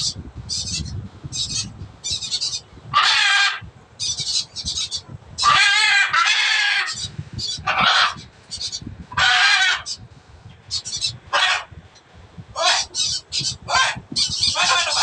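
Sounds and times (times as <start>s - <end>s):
macaw screeching: 0.0s - 10.0s, 10.7s - 11.7s, 12.6s - 15.0s.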